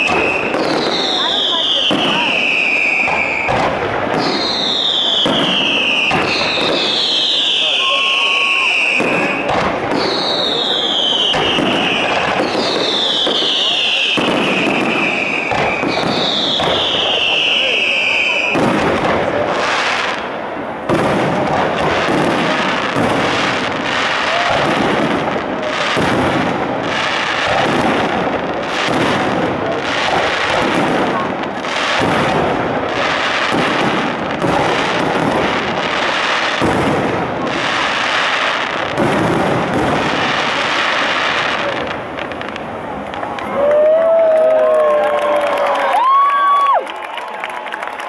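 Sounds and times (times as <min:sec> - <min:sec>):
fireworks booming: 0:00.0 - 0:46.8.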